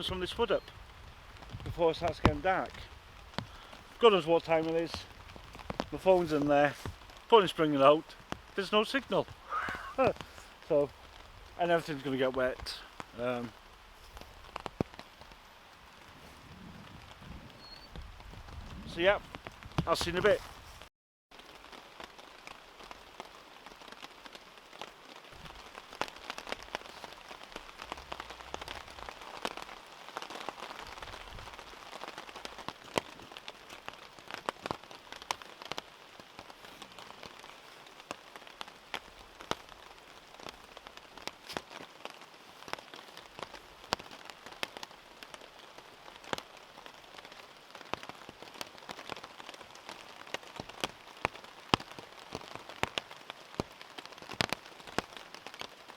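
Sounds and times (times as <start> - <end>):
heavy rain drops: 0.0 - 55.9.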